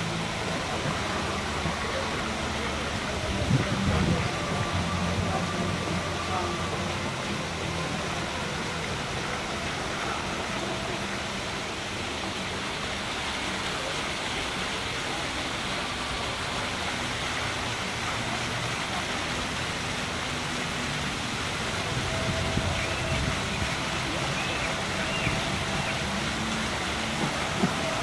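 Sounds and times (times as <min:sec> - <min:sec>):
faint voices murmuring: 0:00.0 - 0:28.0
fountain water splashing: 0:00.0 - 0:28.0.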